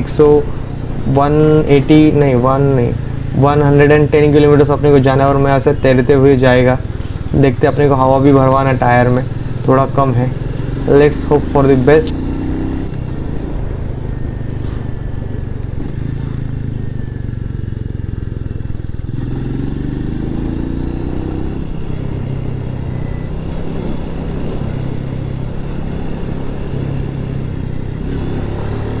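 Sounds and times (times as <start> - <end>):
motorcycle engine cruising: 0.0 - 29.0.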